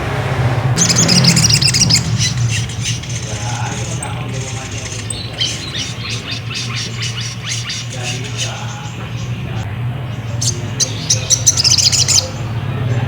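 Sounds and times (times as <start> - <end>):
steady low hum: 0.0 - 13.0
bird chirping and trilling: 0.8 - 13.0.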